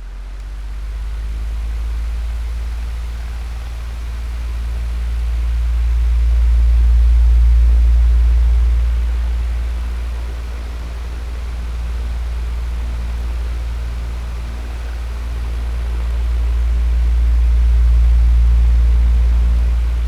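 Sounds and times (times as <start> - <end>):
electric fan running: 0.0 - 20.0.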